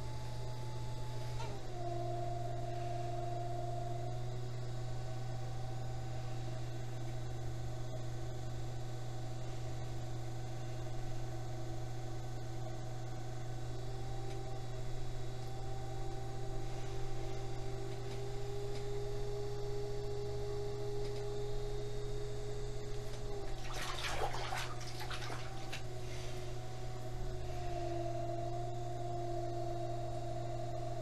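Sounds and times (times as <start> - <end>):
potter's wheel motor humming: 0.0 - 31.0.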